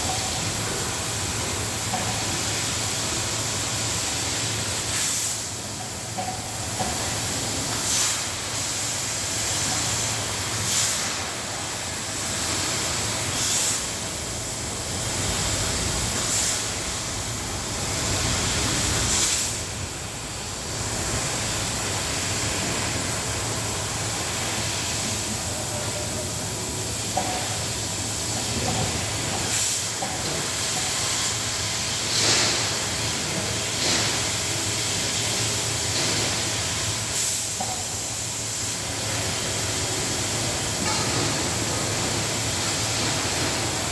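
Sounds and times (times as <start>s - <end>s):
cutting machine hiss and hum: 0.0s - 43.9s.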